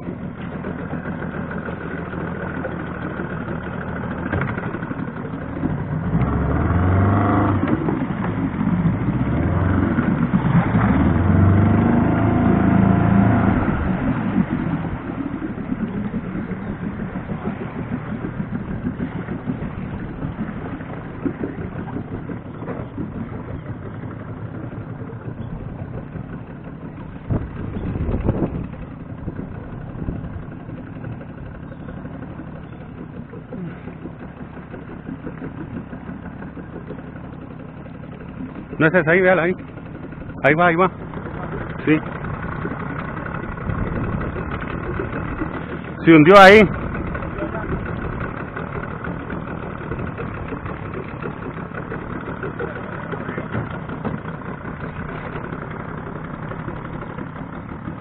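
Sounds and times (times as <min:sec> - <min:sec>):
small boat engine running: 0:00.0 - 0:58.0.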